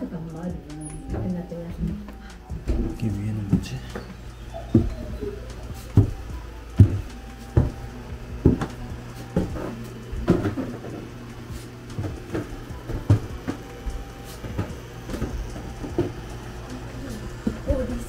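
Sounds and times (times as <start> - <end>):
steady low hum: 0.0 - 18.0
footsteps on wooden stairs: 0.2 - 18.0.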